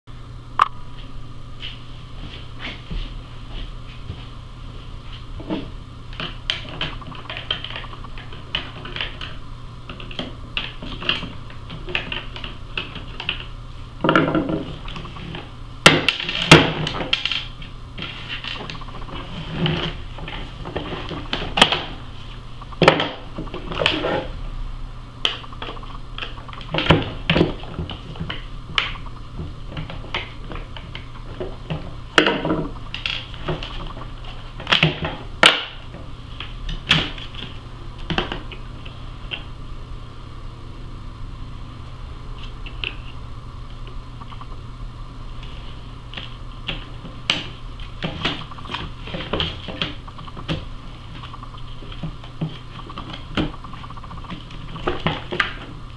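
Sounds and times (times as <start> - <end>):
steady low hum: 0.1 - 55.9.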